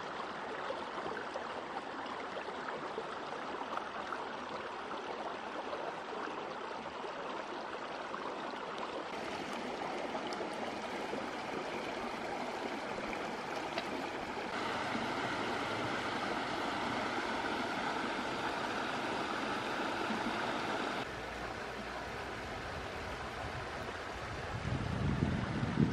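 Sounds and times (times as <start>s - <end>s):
stream rushing over stones: 3.2s - 24.4s.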